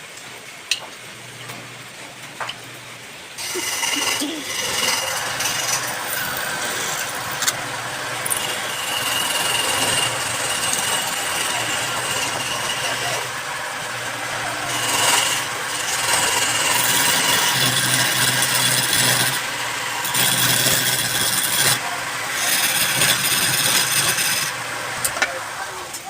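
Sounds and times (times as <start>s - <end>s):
motor hum: 3.0s - 26.0s
power tool rasping wood: 3.4s - 25.4s.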